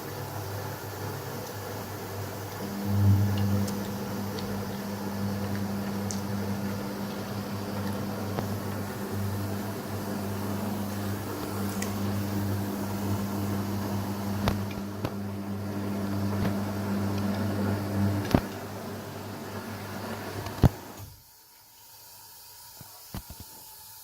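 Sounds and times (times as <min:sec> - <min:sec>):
washing machine humming: 0:00.0 - 0:21.4.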